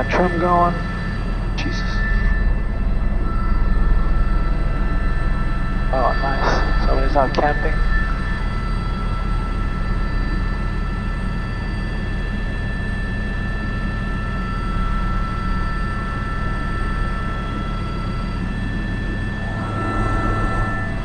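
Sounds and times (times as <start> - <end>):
helicopter turbine whine: 0.0 - 21.0
rotor and engine drone: 0.0 - 21.0.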